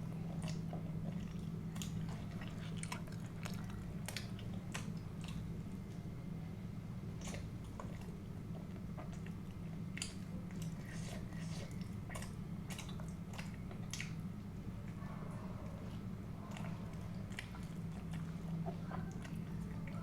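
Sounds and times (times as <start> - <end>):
steady low hum: 0.0 - 20.0
chewing and mouth smacks: 0.1 - 6.1, 7.1 - 15.0, 15.6 - 20.0.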